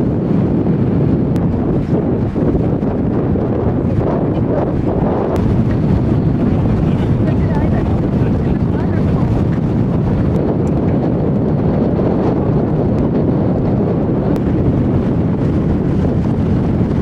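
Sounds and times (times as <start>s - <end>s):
boat engine: 0.0s - 17.0s
rush of boat wake: 0.0s - 17.0s
wind buffeting microphone: 0.0s - 17.0s.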